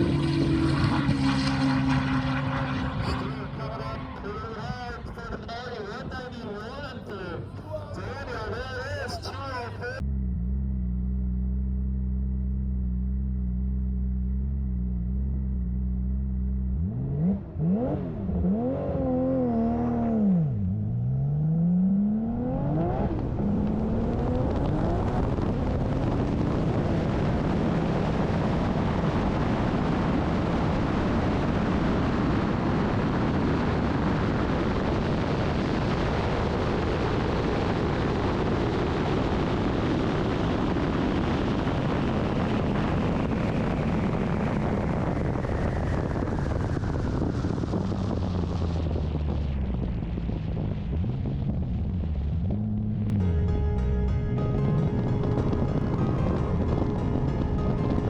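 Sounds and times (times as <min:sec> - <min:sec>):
wind roar at high speed: 0:00.0 - 0:07.3, 0:16.8 - 0:53.2, 0:54.4 - 0:58.0
race car engine revving: 0:00.0 - 0:08.9, 0:09.5 - 0:53.4.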